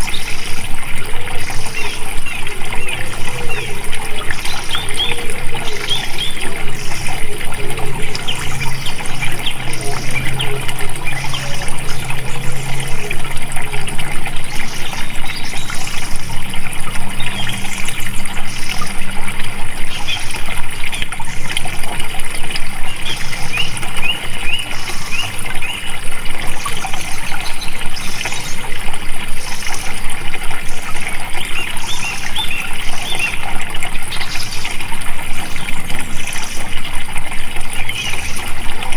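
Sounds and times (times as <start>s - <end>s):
low steady hum: 0.0s - 31.4s
water trickling and splashing: 0.0s - 38.9s.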